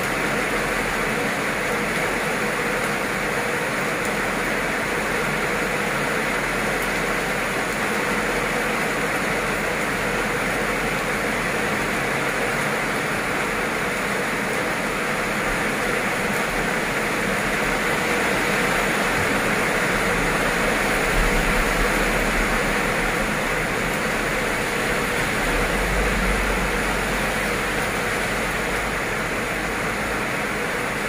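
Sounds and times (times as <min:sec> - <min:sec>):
heavy rain on pavement: 0:00.0 - 0:31.0
road traffic rumble: 0:00.0 - 0:31.0.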